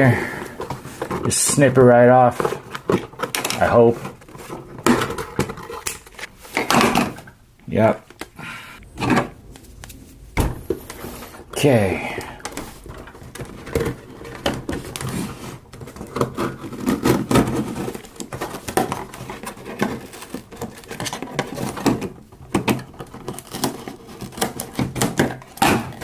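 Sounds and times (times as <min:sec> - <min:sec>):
packaging rustling: 0:00.0 - 0:26.0.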